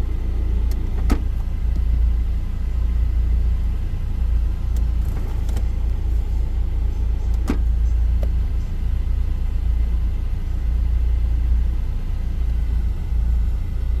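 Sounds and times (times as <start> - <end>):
car cabin low rumble: 0.0 - 14.0.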